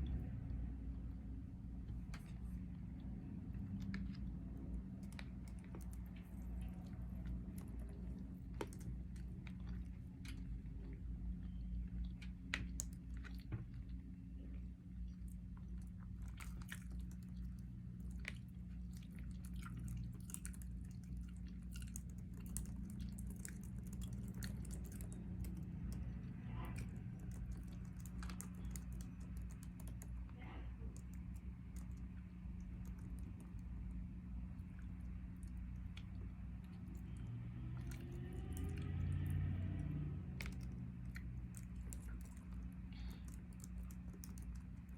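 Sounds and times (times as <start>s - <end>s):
steady low hum: 0.0s - 44.9s
person chewing food: 1.8s - 44.9s.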